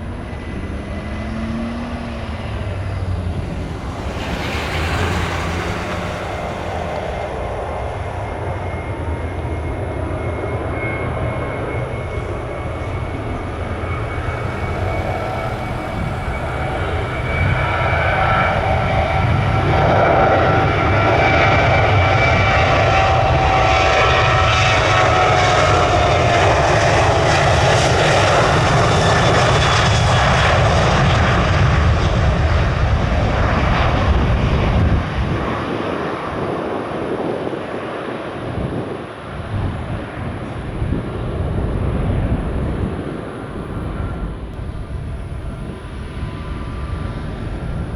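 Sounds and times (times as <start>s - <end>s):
jet aircraft engine passing: 0.0s - 47.9s.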